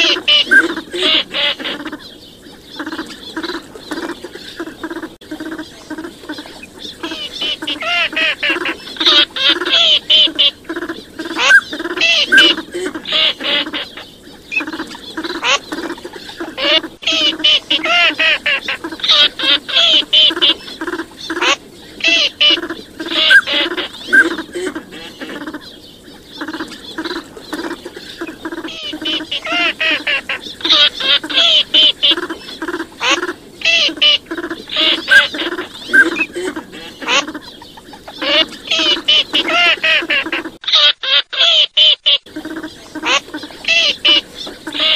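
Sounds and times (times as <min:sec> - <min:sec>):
higher busy duck calling: 0:00.0 - 0:02.1, 0:02.7 - 0:25.7, 0:26.4 - 0:44.9
recorded duck quacking calls: 0:00.0 - 0:02.1, 0:02.8 - 0:25.7, 0:26.4 - 0:44.9.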